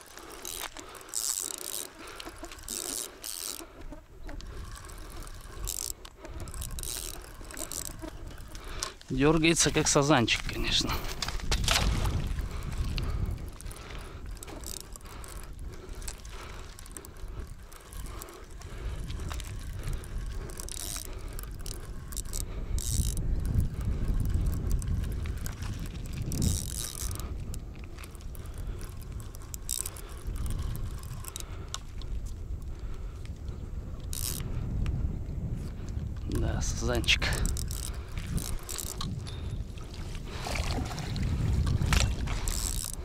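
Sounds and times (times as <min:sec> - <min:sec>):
fishing reel whirring and clicking: 0:00.0 - 0:35.0, 0:35.6 - 0:43.0.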